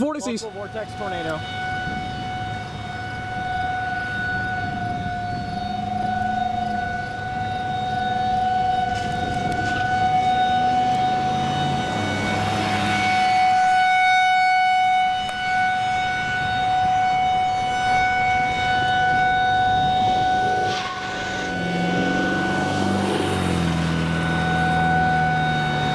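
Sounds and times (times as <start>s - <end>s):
warning siren steady tone: 0.0s - 25.9s.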